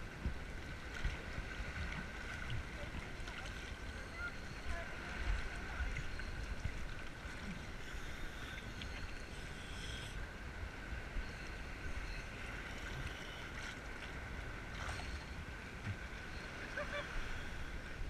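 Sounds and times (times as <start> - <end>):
high faint whine: 0.0 - 18.0
sea water lapping: 0.0 - 18.0.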